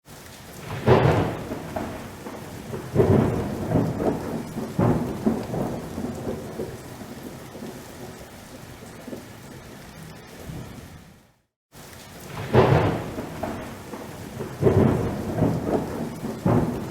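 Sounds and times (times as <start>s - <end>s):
rain falling: 0.0s - 16.9s
thunder rolling: 0.6s - 11.0s, 12.2s - 16.9s.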